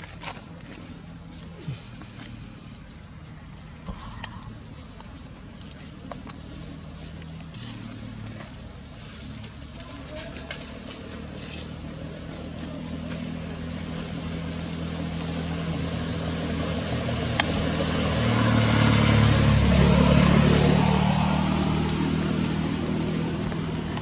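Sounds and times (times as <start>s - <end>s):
vehicle engine driving past: 0.2s - 24.0s.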